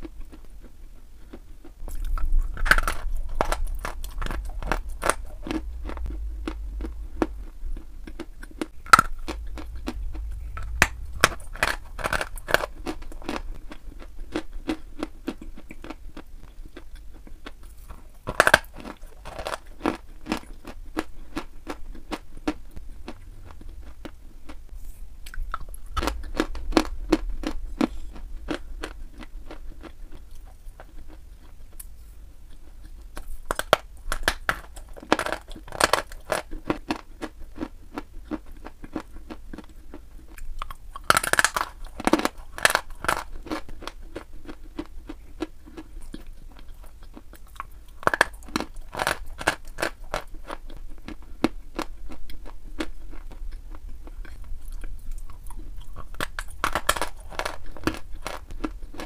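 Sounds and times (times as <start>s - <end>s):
chalk being chewed with crunches: 0.0s - 59.0s.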